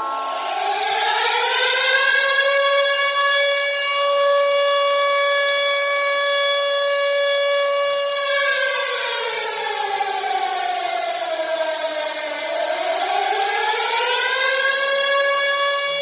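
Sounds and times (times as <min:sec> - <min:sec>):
siren-like goal horn: 0:00.0 - 0:16.0.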